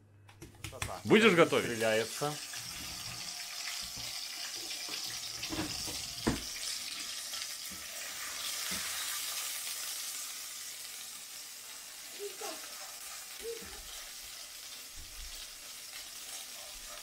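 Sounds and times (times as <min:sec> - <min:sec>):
steak sizzling in frying pan: 0:01.0 - 0:17.0.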